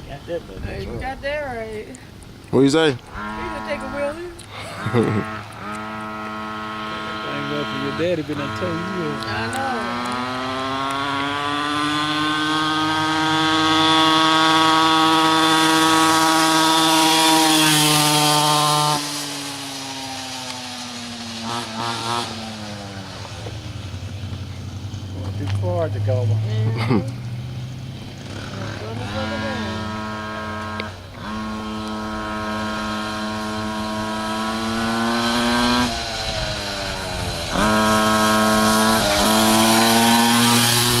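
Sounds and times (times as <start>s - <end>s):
small motorcycle engine buzzing: 2.6s - 41.0s.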